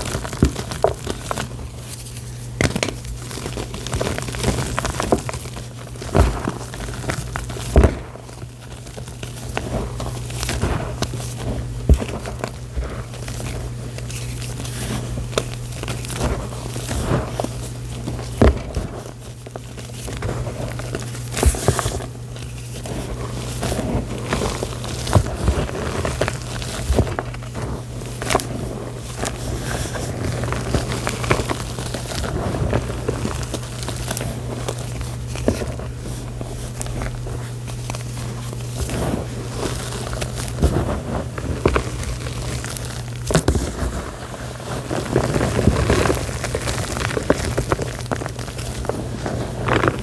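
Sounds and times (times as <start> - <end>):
chalk crinkling and crunching: 0.0 - 50.0.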